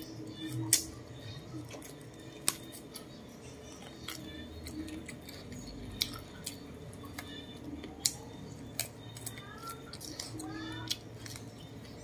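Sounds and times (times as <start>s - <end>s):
close chewing with clicks: 0.0s - 12.0s.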